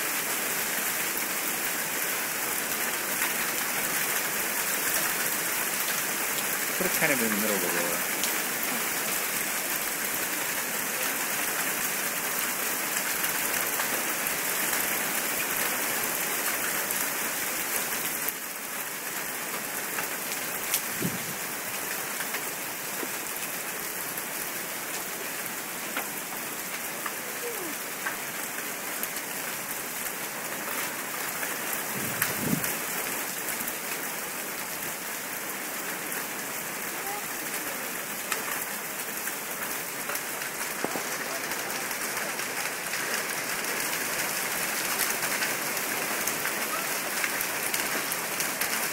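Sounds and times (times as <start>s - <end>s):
hail hitting the ground: 0.1s - 48.9s.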